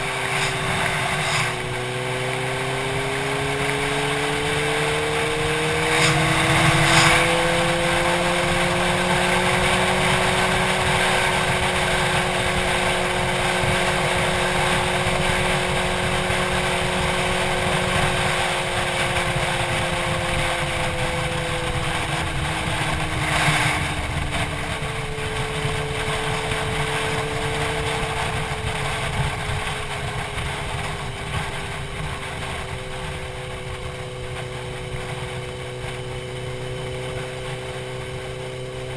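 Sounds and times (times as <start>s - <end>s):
motorcycle engine cruising: 0.0s - 38.9s
wind rushing over microphone: 0.0s - 38.9s.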